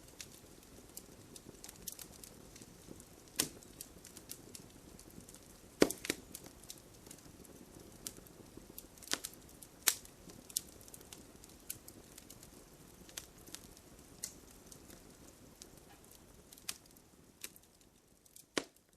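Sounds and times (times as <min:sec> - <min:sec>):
wood fire crackling: 0:00.0 - 0:18.9.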